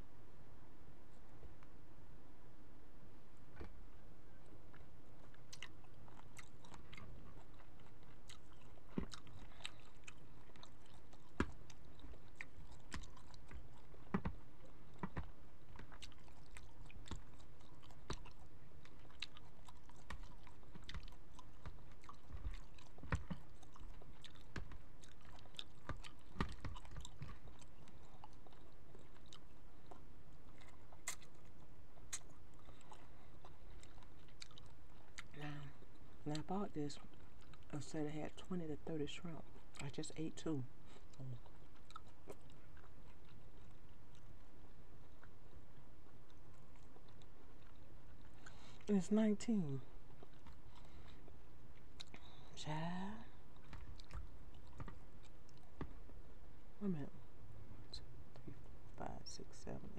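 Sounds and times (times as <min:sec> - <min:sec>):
person chewing: 0:04.4 - 0:38.6, 0:39.4 - 0:49.0, 0:49.8 - 0:56.1.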